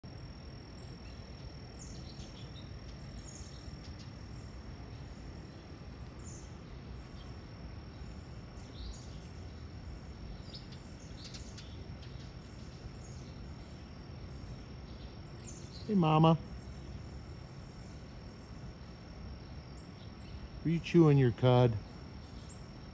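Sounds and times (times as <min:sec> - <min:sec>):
high insect drone: 0:00.0 - 0:22.9
low background hum: 0:00.0 - 0:22.9
small birds chirping: 0:00.0 - 0:22.9.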